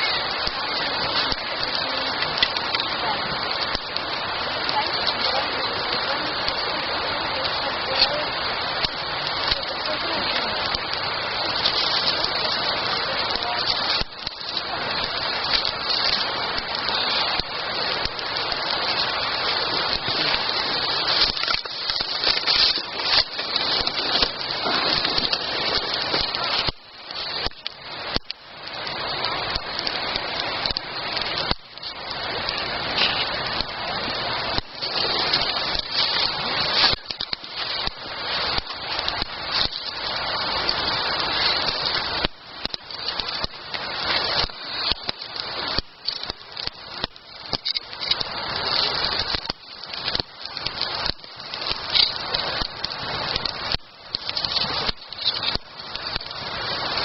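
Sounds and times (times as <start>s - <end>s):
campfire crackling and hissing: 0.0s - 57.0s.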